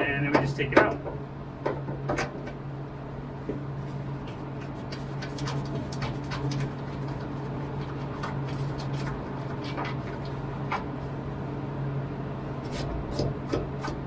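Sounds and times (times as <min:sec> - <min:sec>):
low workshop hum: 0:00.0 - 0:14.0.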